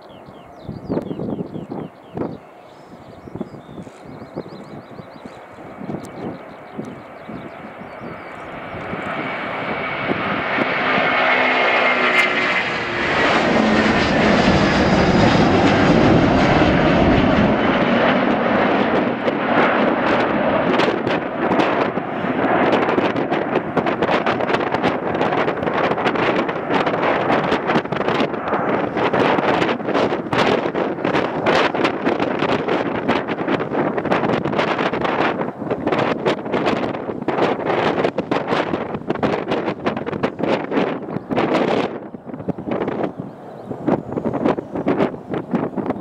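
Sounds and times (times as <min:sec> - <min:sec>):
wind buffeting microphone: 0:00.0 - 0:46.0
jet airliner taking off: 0:00.1 - 0:46.0.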